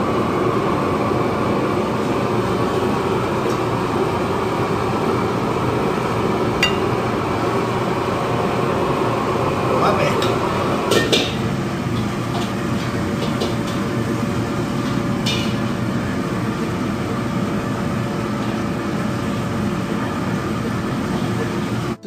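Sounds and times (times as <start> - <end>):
kitchen mechanical noise: 0.0 - 22.0.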